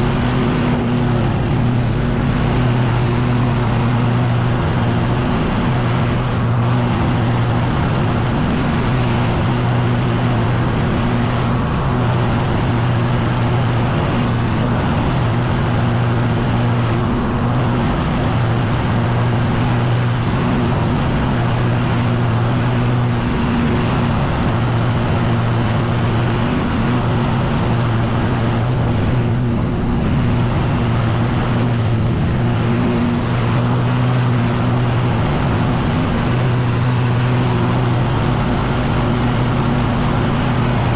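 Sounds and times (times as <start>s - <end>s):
leaf blower engine running: 0.0s - 40.9s.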